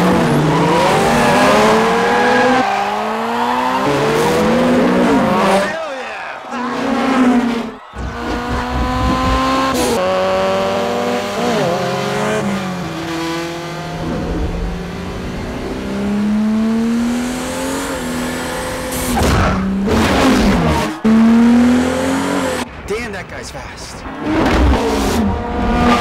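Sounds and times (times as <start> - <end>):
race car engines at full throttle: 0.0 - 23.3, 23.9 - 26.0.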